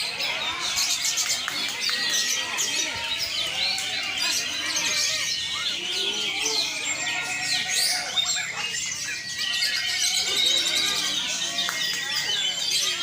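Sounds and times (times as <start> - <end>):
chorus of songbirds singing: 0.0 - 13.0.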